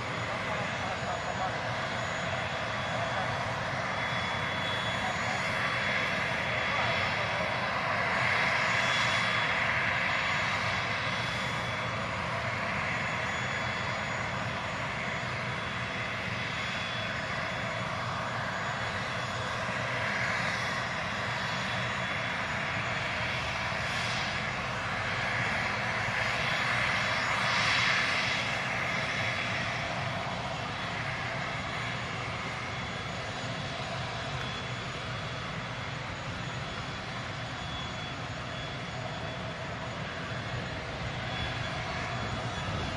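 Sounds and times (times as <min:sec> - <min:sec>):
turbine whine: 0:00.0 - 0:42.9.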